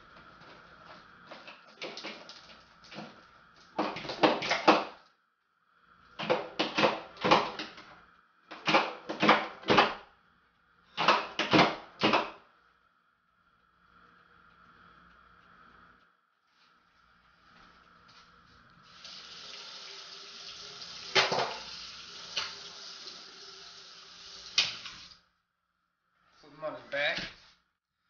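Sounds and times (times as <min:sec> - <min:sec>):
faint steady hum: 0:00.0 - 0:27.4.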